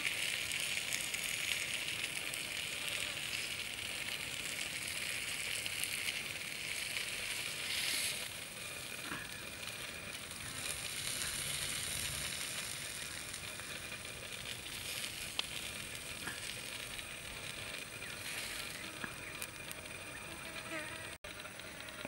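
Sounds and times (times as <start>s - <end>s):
high buzzing hiss: 0.0s - 22.0s.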